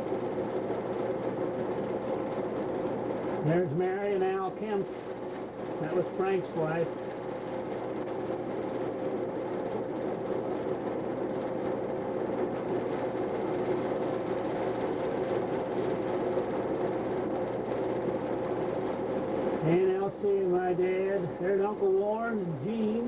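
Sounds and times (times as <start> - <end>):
film projector whirring: 0.0 - 23.0.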